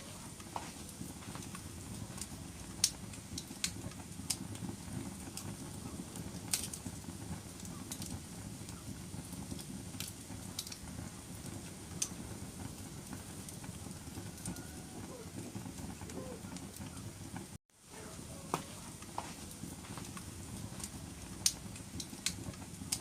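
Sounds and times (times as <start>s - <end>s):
fire crackling and popping: 0.0s - 23.0s
wood fire burning: 0.0s - 23.0s.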